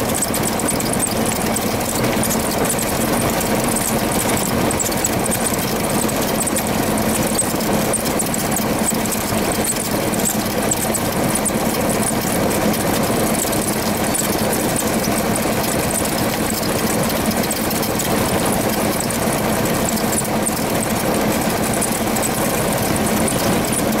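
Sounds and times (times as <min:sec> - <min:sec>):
aircraft piston engine running: 0:00.0 - 0:24.0.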